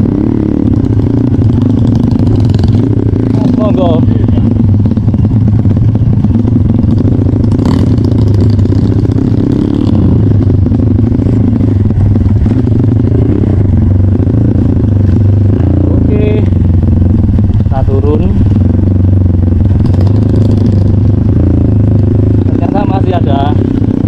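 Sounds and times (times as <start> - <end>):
clatter: 0.0 - 24.0
motorcycle engine running: 0.0 - 24.0.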